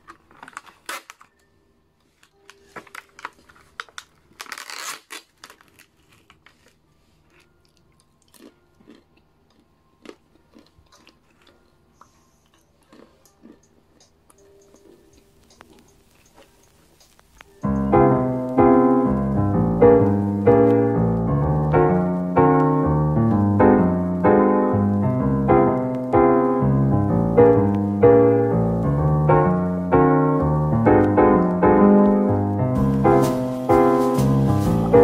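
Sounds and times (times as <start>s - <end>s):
mellow lofi piano music: 0.0s - 35.0s.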